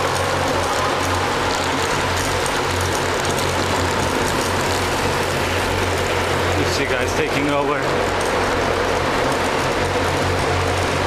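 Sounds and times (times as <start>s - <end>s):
bicycle road noise: 0.0s - 11.0s
low hum: 0.0s - 11.0s.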